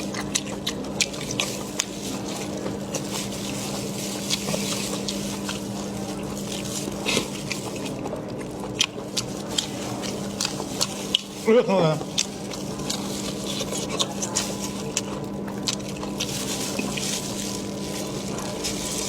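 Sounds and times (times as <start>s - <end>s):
steady low hum: 0.0s - 19.0s
wet mouth eating sounds: 0.0s - 19.0s.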